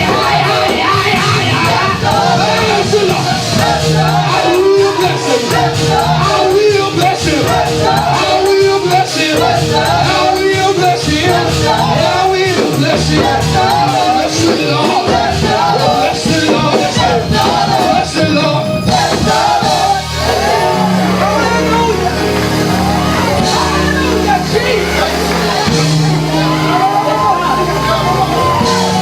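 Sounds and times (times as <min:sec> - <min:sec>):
people singing: 0:00.0 - 0:29.0
worship band with drums: 0:00.0 - 0:29.0.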